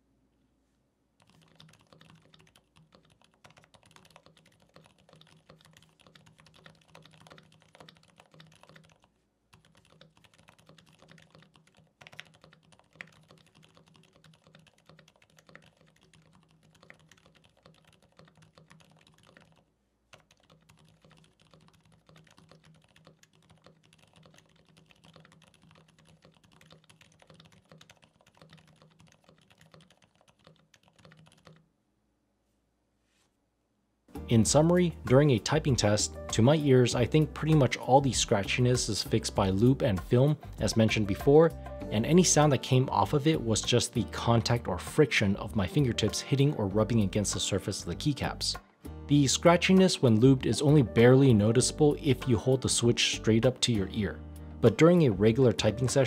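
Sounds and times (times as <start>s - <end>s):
fast typing on keyboard: 1.2s - 31.7s, 34.6s - 48.6s, 49.3s - 56.0s.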